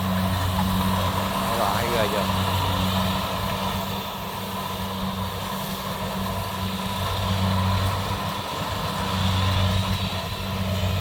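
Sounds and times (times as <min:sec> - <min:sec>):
combine harvester engine humming: 0:00.0 - 0:11.0.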